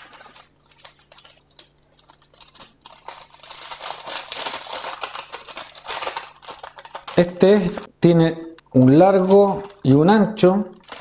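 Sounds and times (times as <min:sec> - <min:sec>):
plastic packet crinkling: 0:00.0 - 0:07.9, 0:08.7 - 0:11.0.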